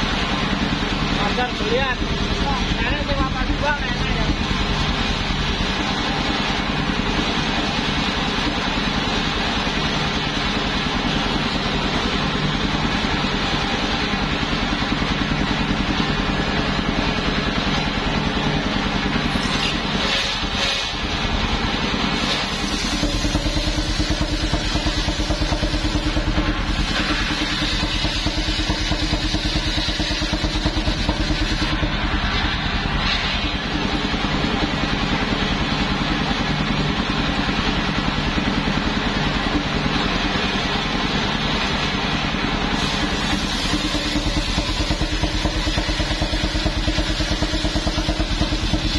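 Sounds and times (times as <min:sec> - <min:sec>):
sawmill engine running: 0:00.0 - 0:48.9.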